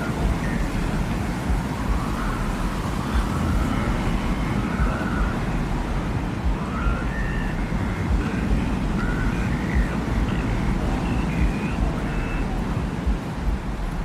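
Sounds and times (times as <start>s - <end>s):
wind rumbling and whistling: 0.0s - 14.0s.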